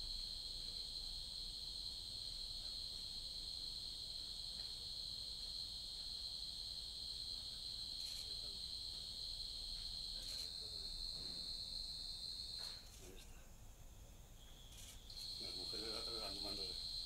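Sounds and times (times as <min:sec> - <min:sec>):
high-pitched insect chorus: 0:00.0 - 0:13.4, 0:14.4 - 0:17.0.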